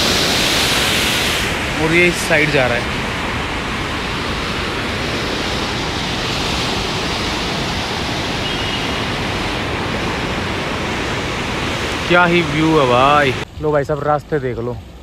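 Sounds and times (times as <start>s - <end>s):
river rushing: 0.0s - 13.6s.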